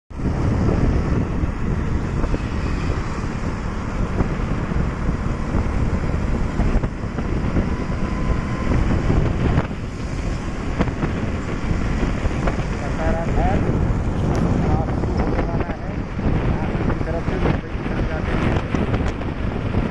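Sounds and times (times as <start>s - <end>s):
wind buffeting microphone: 0.1s - 19.9s
motorcycle engine: 0.2s - 19.9s.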